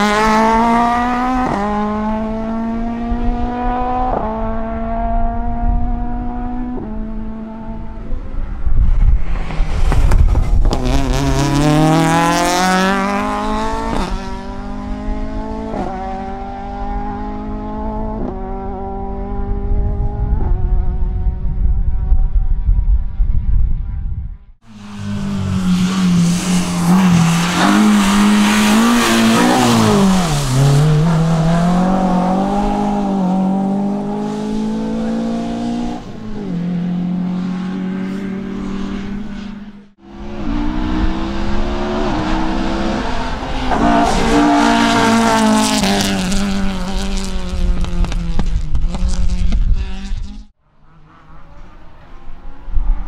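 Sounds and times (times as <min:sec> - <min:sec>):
racing car engine at high revs: 0:00.0 - 0:08.6, 0:09.2 - 0:21.3, 0:24.7 - 0:53.0.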